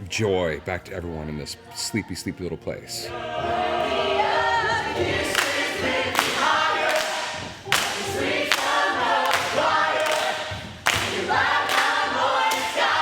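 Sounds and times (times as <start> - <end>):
voices singing in harmony: 0.4 - 13.0.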